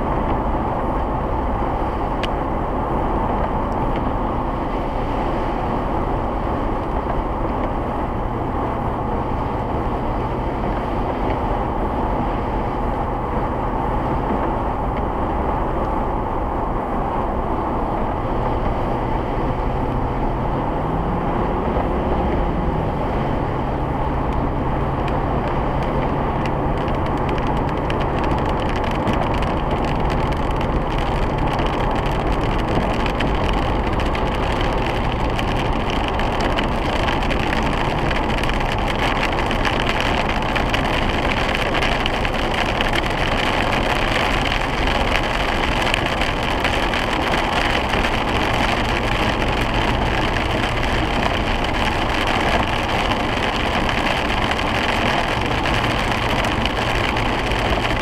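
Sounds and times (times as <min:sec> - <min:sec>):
car engine drone: 0:00.0 - 0:58.0.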